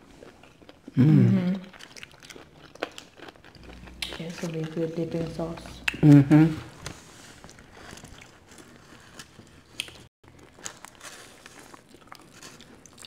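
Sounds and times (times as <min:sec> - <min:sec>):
chewing fried food: 0:00.0 - 0:13.0.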